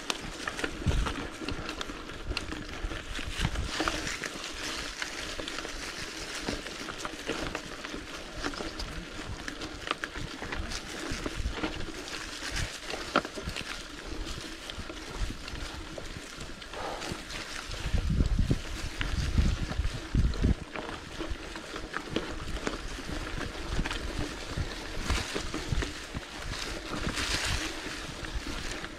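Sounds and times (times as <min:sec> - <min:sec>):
twigs and bike clicks and rattles: 0:00.0 - 0:28.9
tyres rolling over leafy trail: 0:00.0 - 0:28.9.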